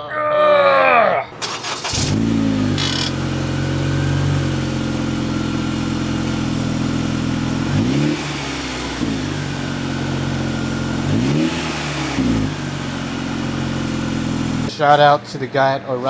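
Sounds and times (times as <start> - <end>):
engine revs: 1.4 - 14.7
car engine idling: 1.4 - 15.7.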